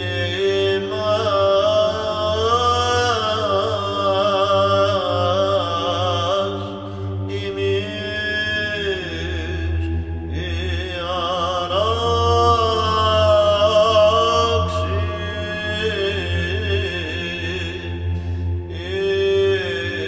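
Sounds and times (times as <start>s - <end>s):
cantor singing ornamented melody: 0.0s - 20.0s
low vocal drone: 0.0s - 20.0s.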